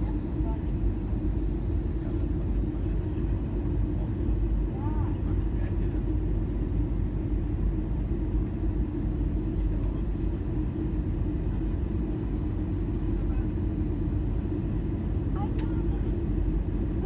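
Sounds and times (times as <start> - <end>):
airliner engines rumbling in cabin: 0.0 - 17.0.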